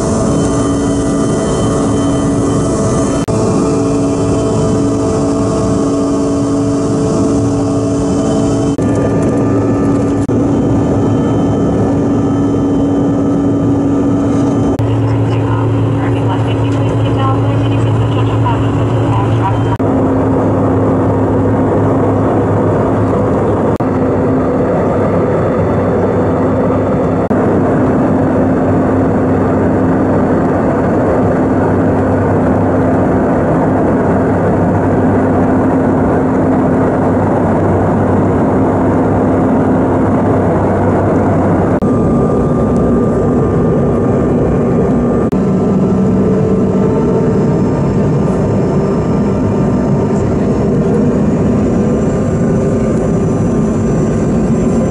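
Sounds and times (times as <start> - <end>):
airliner engine drone: 0.0 - 54.9.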